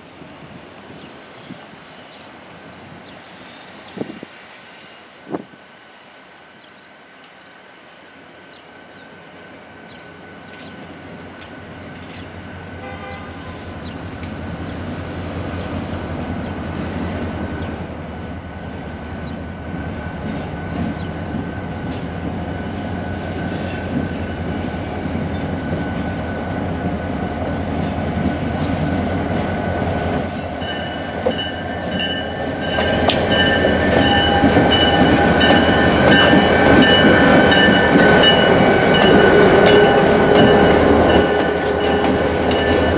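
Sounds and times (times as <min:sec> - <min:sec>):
train wheels on rails: 0:00.0 - 0:42.9
diesel locomotive engine rumble: 0:08.0 - 0:42.9.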